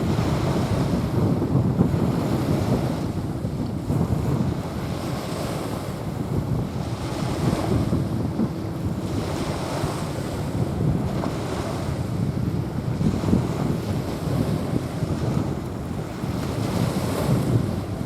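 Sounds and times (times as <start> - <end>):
small waves washing onto sand: 0.0 - 18.0
wind rumbling on microphone: 0.0 - 18.0.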